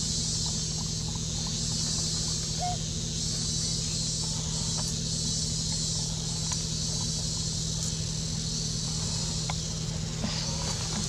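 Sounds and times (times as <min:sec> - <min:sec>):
high insect drone: 0:00.0 - 0:11.0
low hum and rumble: 0:00.0 - 0:11.0.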